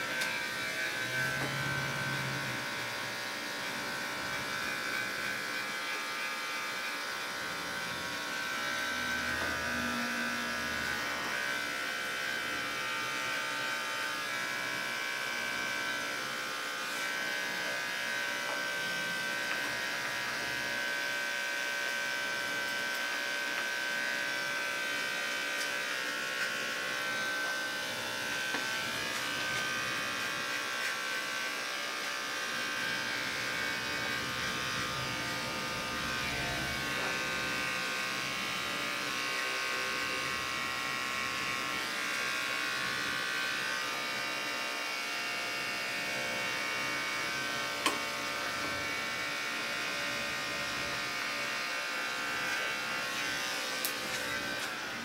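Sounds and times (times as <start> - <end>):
electric dog clipper buzzing: 0.0 - 55.0.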